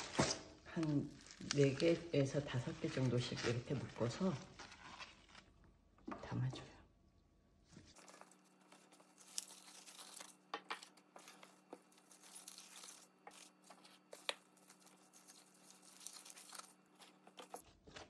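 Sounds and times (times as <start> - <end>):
gloved hands rustling and crinkling: 0.0 - 5.8, 7.7 - 18.0.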